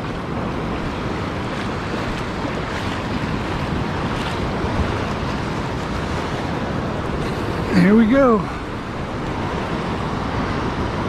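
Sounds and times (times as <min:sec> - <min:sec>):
ocean surf washing in: 0:00.0 - 0:11.0
wind rumbling on microphone: 0:00.0 - 0:11.0.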